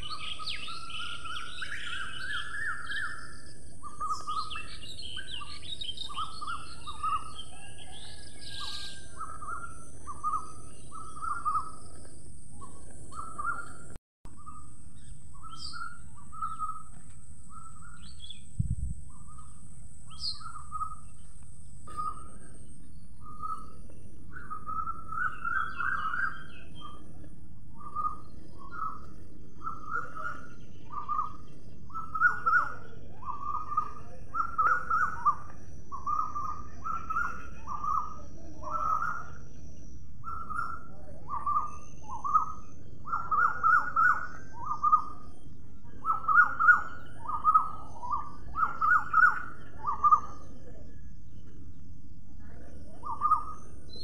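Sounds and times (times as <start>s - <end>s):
bird chirping: 0.0s - 54.0s
low background hum: 0.0s - 54.0s.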